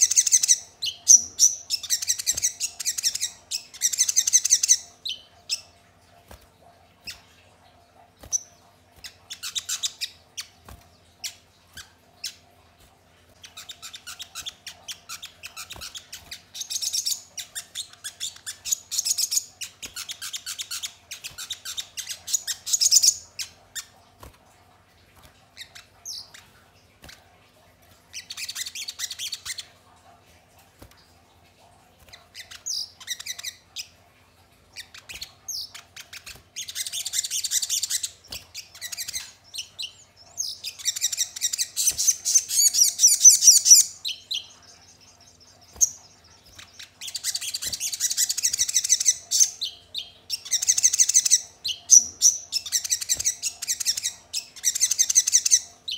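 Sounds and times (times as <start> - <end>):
sunbird chirping: 0.0 - 24.0, 31.4 - 55.9.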